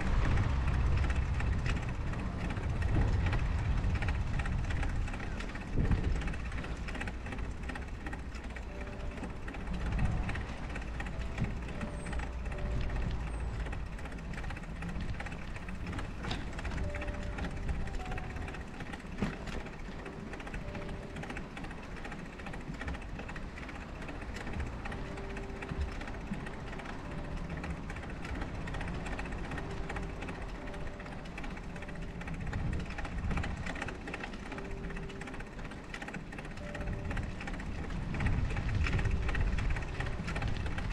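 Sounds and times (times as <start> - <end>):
soft background music: 0.0 - 40.9
wind buffeting microphone: 0.0 - 40.9.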